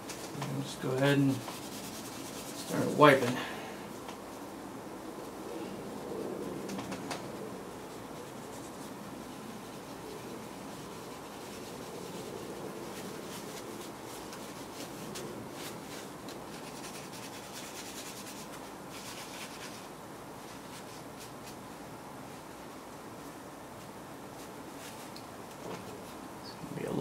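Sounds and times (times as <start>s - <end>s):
cloth rubbing in quick strokes: 0.0s - 4.6s, 5.2s - 26.4s.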